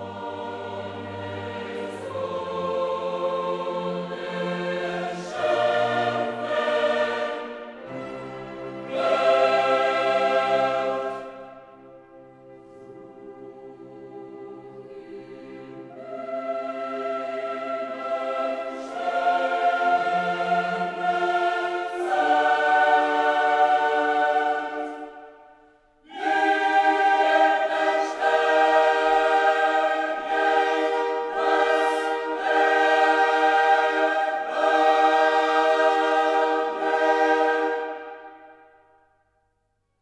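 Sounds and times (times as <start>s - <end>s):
choir singing slow chords: 0.0s - 40.0s.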